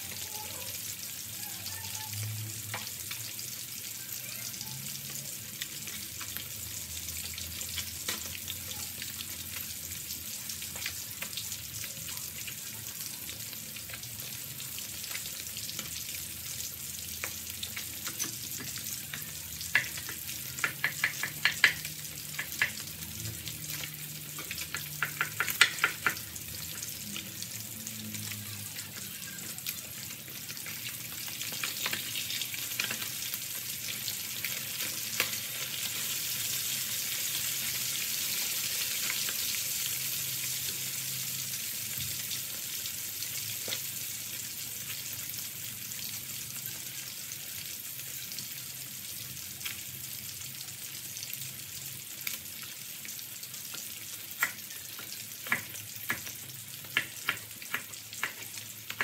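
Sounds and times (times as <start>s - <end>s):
fish deep-frying in oil: 0.0s - 59.0s.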